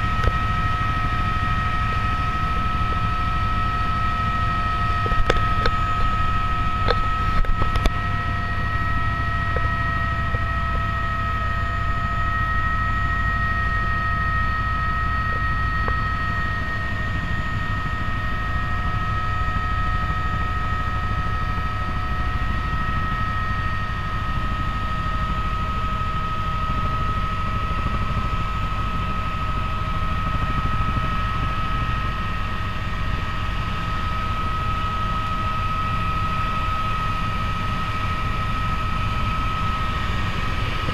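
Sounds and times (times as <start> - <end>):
helicopter rotor rumble: 0.0 - 40.9
high-pitched whine: 0.0 - 40.9.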